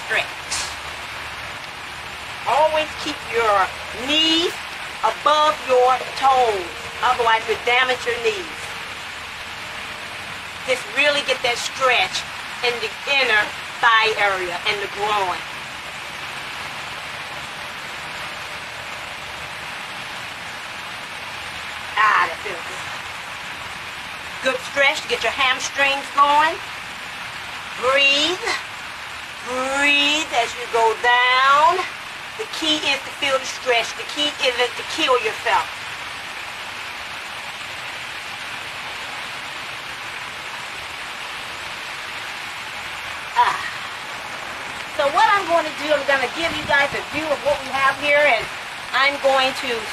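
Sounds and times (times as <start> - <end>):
falling splashing water: 0.0 - 49.9.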